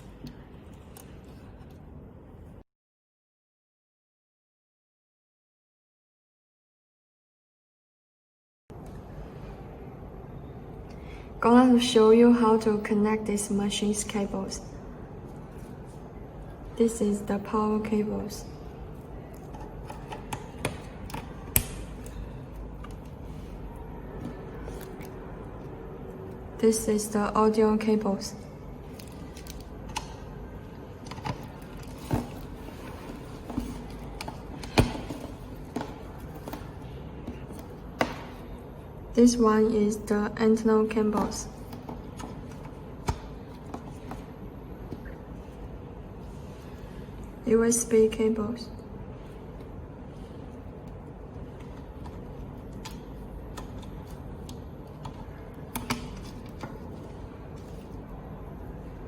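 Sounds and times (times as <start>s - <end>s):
low background noise: 8.7s - 59.0s.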